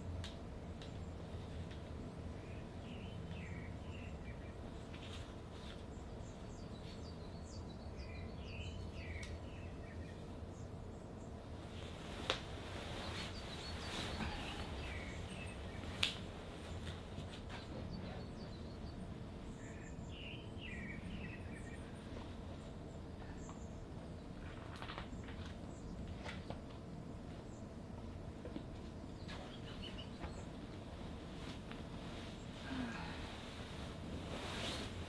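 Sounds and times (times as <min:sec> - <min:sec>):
steady low hum: 0:00.0 - 0:35.0
small birds chirping: 0:00.8 - 0:35.0.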